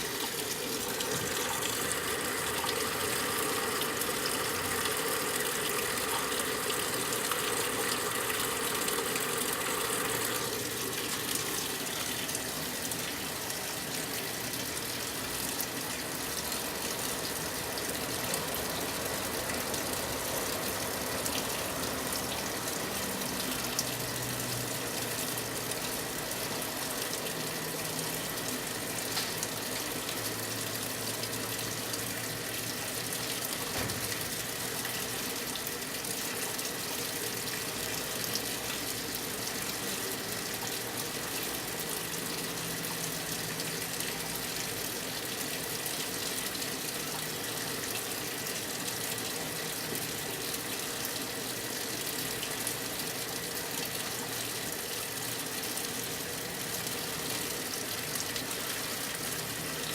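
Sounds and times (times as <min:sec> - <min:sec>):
washing machine filling with water: 0:00.0 - 0:59.9.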